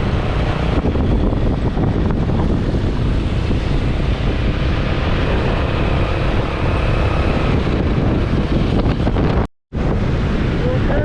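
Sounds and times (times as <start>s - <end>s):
boat running noise: 0.0s - 11.0s
wind rumble on microphone: 0.0s - 11.0s.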